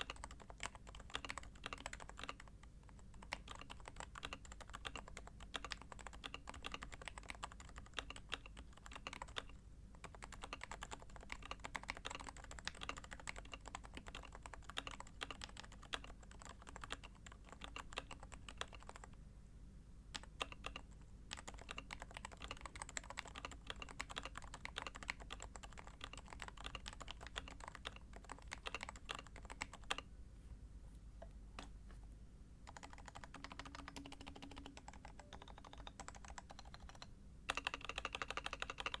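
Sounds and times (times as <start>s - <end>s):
muted keyboard keystrokes: 0.0s - 19.2s, 20.1s - 30.1s, 32.6s - 39.0s.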